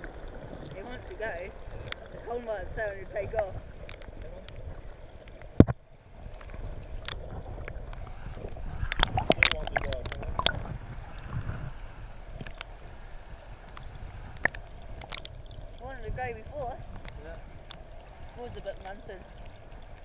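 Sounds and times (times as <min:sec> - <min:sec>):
muffled water sloshing and gurgling: 0:00.0 - 0:20.0.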